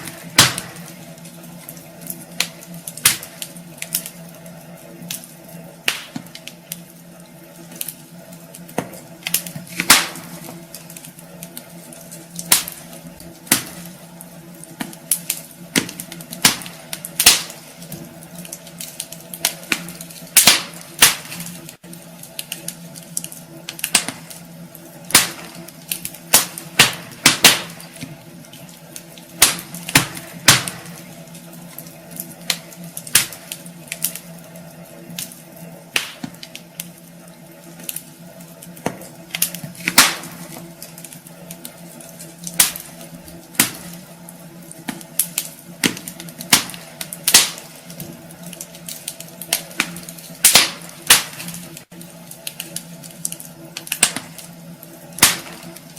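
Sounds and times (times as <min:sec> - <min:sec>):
faint steady hum: 0:00.0 - 0:55.9
sharp pops from fire: 0:00.0 - 0:55.9
wood fire crackling: 0:00.0 - 0:55.9.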